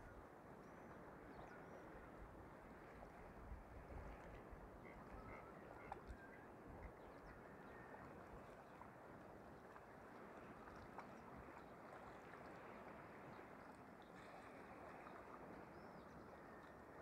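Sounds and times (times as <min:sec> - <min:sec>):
faint outdoor noise with low rumbling: 0:00.0 - 0:17.0.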